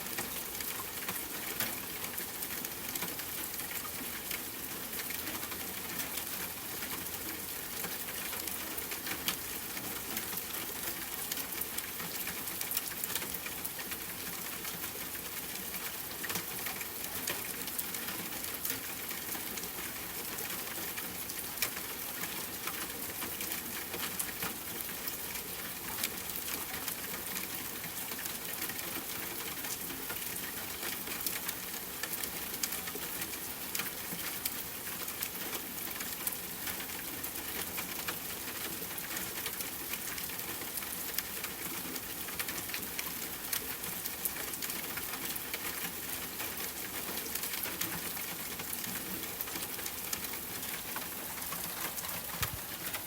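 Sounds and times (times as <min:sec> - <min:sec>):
rain falling on a tent: 0:00.0 - 0:53.0.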